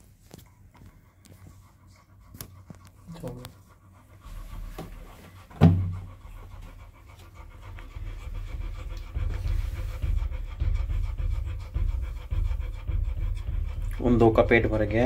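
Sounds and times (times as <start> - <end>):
dog panting rapidly: 0.0 - 15.0.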